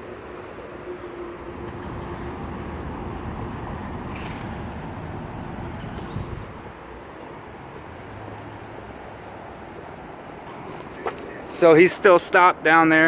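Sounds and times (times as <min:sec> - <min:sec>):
faint engine hum: 0:00.0 - 0:11.6
vehicles passing: 0:00.0 - 0:13.0.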